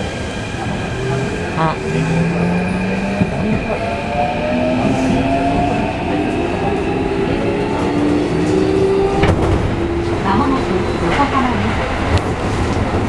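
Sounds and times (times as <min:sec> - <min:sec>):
wheel and rail rumble: 0:00.0 - 0:13.0.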